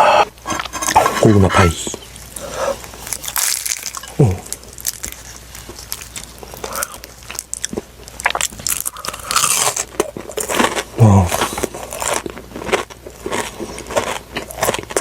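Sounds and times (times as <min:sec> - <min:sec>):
crunching into pie: 0:00.5 - 0:15.0
chewing: 0:00.6 - 0:15.0.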